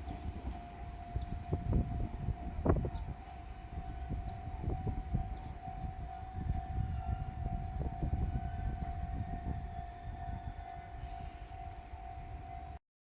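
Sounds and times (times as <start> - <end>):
diesel railcar rumble: 0.0 - 12.8.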